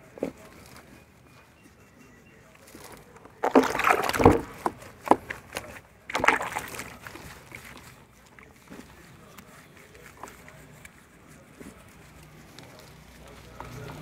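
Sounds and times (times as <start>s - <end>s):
soapy water sloshing in a tub: 2.6s - 14.0s.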